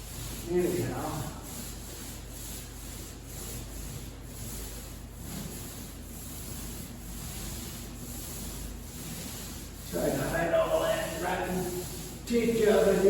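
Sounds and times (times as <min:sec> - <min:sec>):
paint roller swishing on wall: 0:00.0 - 0:13.0
steady low hum: 0:00.0 - 0:13.0.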